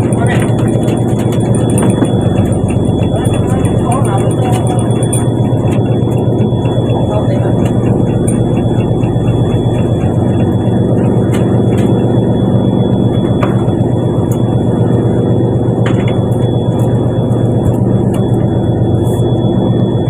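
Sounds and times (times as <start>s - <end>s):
boat engine droning: 0.0s - 20.0s
high whine: 0.0s - 20.0s.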